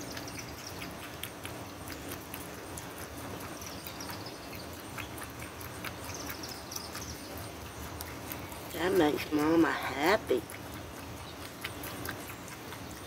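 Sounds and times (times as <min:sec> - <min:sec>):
animal lapping and eating: 0:00.0 - 0:13.0.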